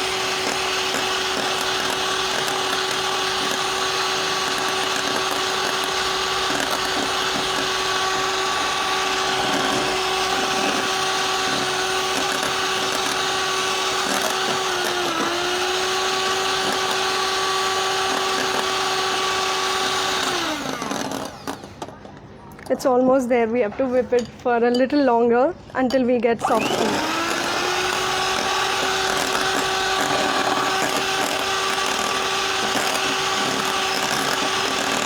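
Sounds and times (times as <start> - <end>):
electric mixer whipping cream: 0.0 - 22.0, 26.4 - 35.0.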